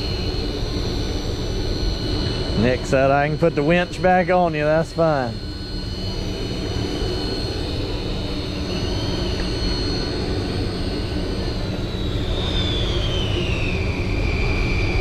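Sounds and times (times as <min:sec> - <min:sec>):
electric fishing reel whine: 0:00.0 - 0:15.0.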